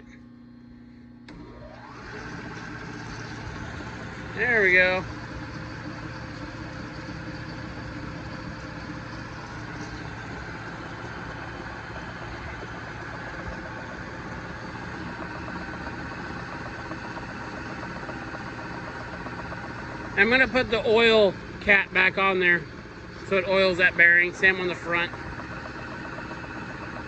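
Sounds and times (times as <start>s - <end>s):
lathe machine humming: 0.2s - 27.0s.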